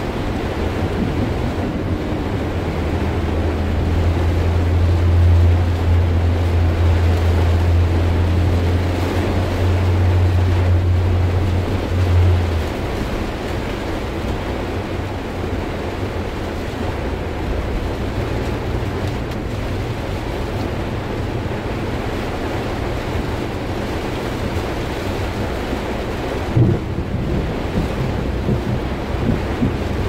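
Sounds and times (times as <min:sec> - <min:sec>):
engine and road rumble: 0:00.0 - 0:30.0
heavy rain on car roof: 0:00.0 - 0:30.0.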